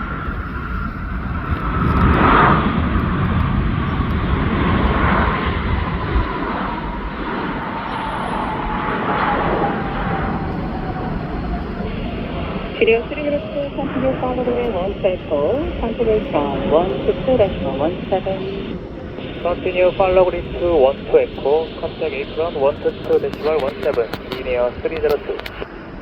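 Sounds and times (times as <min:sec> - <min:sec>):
jet engines rumbling: 0:00.0 - 0:26.0
engine whine sliding down: 0:00.4 - 0:25.0.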